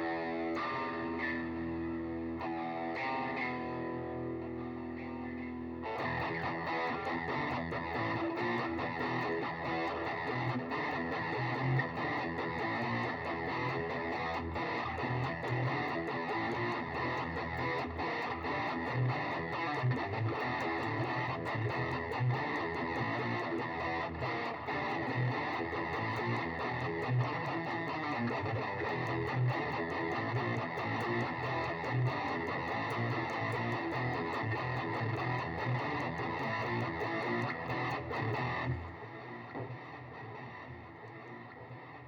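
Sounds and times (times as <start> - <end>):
distorted electric guitar: 0.0 - 42.0.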